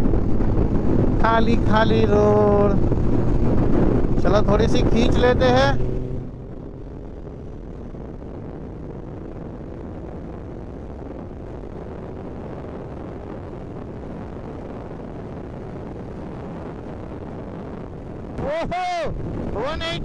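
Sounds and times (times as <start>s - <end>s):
motorcycle engine at high speed: 0.0s - 18.5s, 19.1s - 20.0s
wind rushing over microphone: 0.0s - 20.0s.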